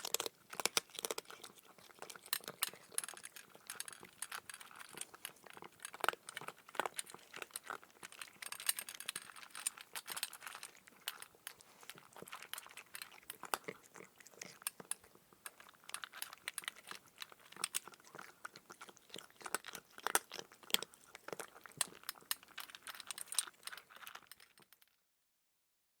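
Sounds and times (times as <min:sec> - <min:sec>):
cat crunching dry kibble: 0:00.0 - 0:25.0
kibble clinking against bowl: 0:00.0 - 0:25.0.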